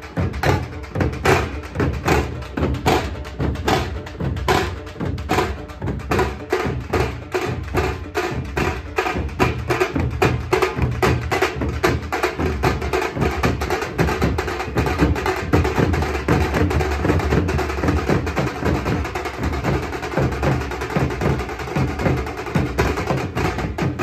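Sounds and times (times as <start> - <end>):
drum group playing fast rhythm: 0.0 - 24.0
heavy bass drum: 0.0 - 24.0.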